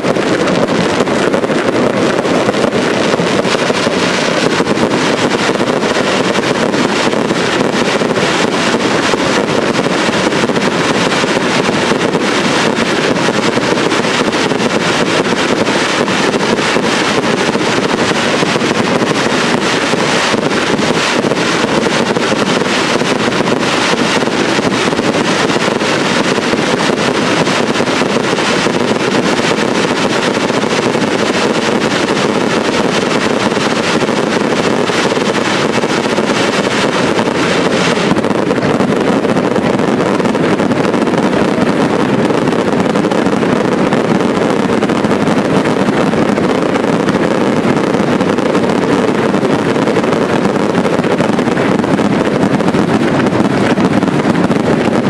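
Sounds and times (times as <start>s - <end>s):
fireworks barrage: 0.0s - 55.0s.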